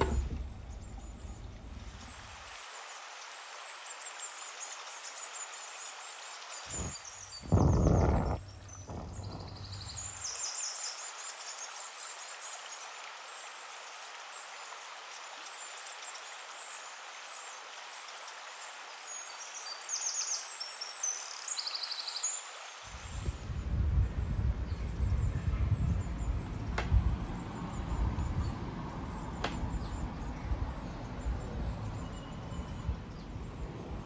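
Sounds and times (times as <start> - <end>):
steady outdoor hiss: 0.0 - 34.0.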